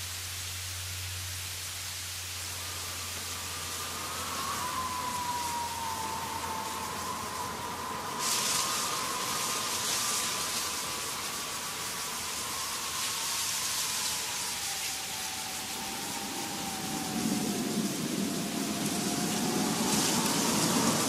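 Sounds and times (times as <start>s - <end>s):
steady hiss: 0.0s - 21.0s
faint tone sinking in pitch: 2.4s - 21.0s.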